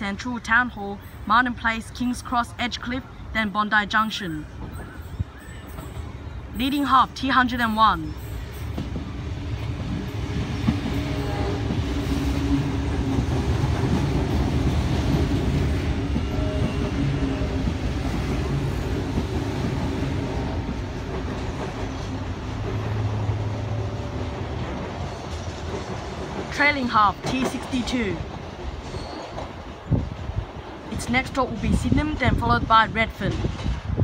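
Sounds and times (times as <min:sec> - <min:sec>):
train wheels rumbling on rail: 0:04.0 - 0:34.0.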